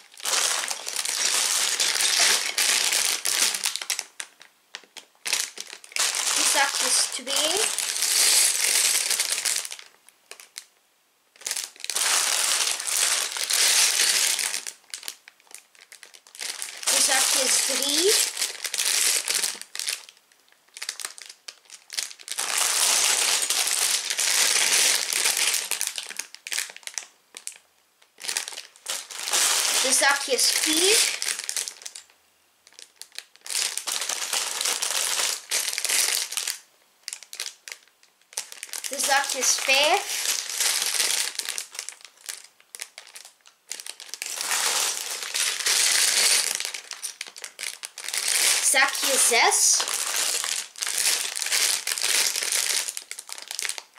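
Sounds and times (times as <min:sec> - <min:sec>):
plastic bags crinkling: 0:00.0 - 0:10.7, 0:11.4 - 0:53.9.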